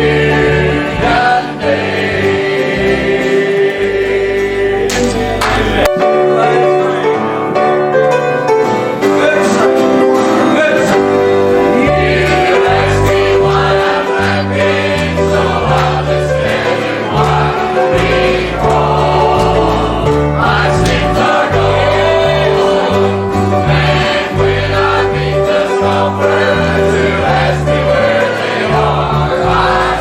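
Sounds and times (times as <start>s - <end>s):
choir singing: 0.0s - 7.6s, 11.4s - 30.0s
instrumental accompaniment with bass: 0.0s - 30.0s.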